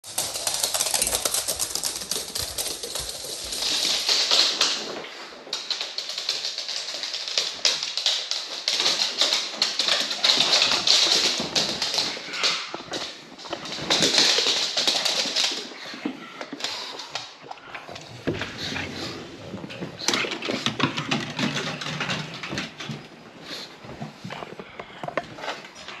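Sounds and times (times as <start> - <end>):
dog claws clicking on floor: 0.0 - 26.0.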